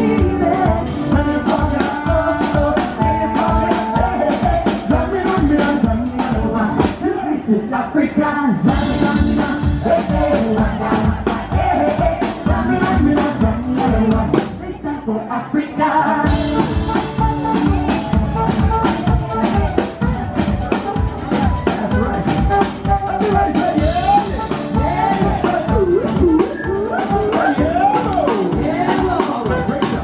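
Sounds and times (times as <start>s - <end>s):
steady drum beat: 0.0s - 7.3s, 8.7s - 14.6s, 16.3s - 30.0s
upbeat music with singing: 0.0s - 30.0s.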